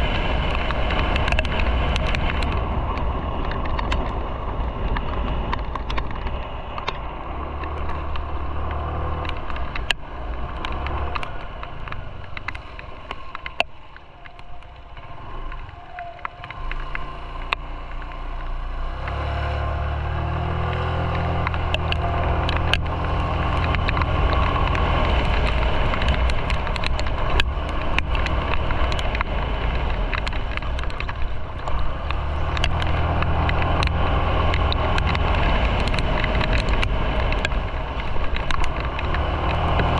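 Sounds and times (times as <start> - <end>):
motorcycle engine running: 0.0 - 39.9
road and wind noise: 0.0 - 39.9
sharp clicks: 4.8 - 39.9.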